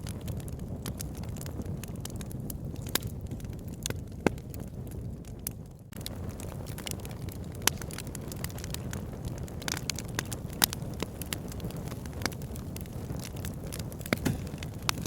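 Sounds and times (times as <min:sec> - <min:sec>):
fire crackles and pops: 0:00.0 - 0:15.0
low rumble of flame: 0:00.0 - 0:15.0.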